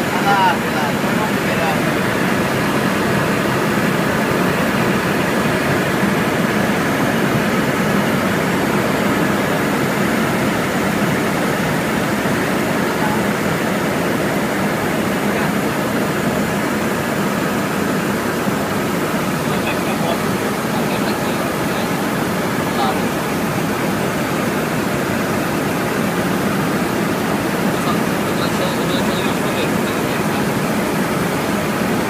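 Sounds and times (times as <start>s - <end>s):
helicopter cabin drone: 0.0s - 32.0s.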